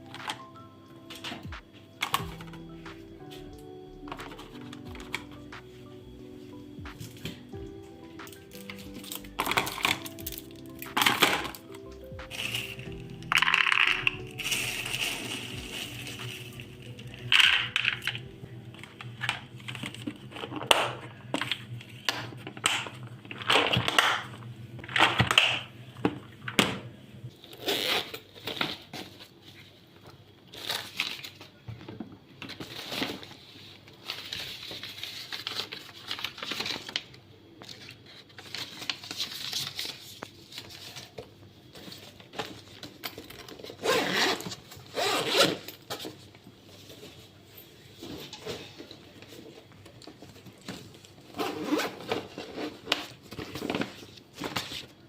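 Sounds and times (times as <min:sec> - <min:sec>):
crinkling: 0:00.0 - 0:25.9, 0:27.4 - 0:55.0.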